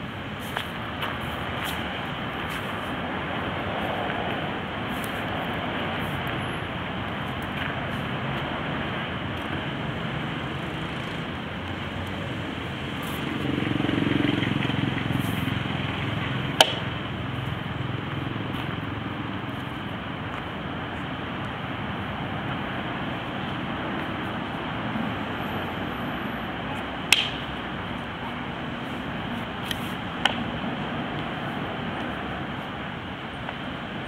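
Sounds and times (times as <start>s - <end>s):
background traffic noise: 0.0s - 34.0s.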